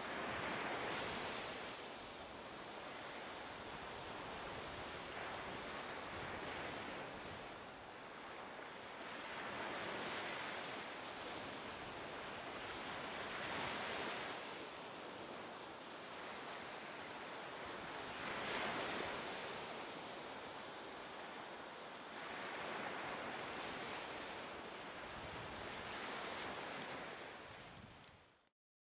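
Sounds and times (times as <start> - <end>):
rushing sea: 0.0 - 28.3
wind: 0.0 - 28.5.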